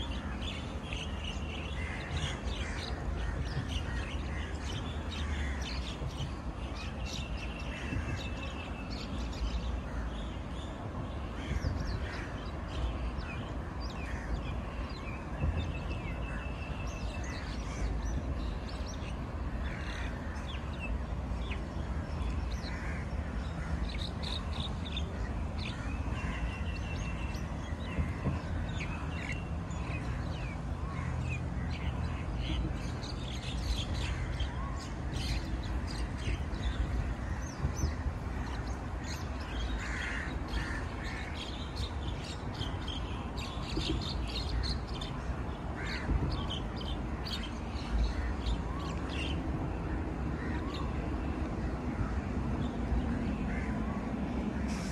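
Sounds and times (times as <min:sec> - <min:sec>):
birds calling and chirping: 0:00.0 - 0:54.9.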